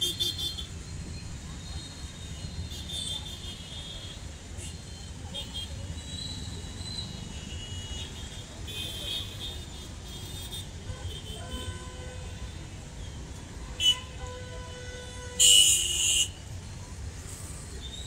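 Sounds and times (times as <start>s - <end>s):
traffic engines rumbling: 0.0s - 18.0s.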